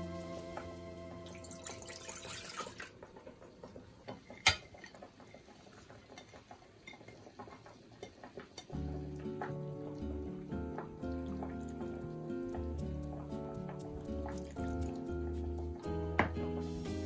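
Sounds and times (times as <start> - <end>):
liquid pouring into saucepan: 1.2 - 15.7.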